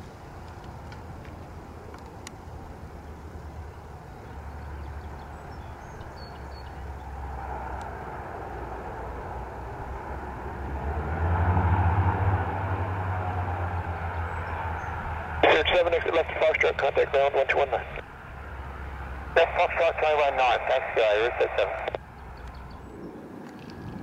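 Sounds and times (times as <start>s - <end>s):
turboprop propeller drone: 0.0s - 11.0s, 11.6s - 24.0s.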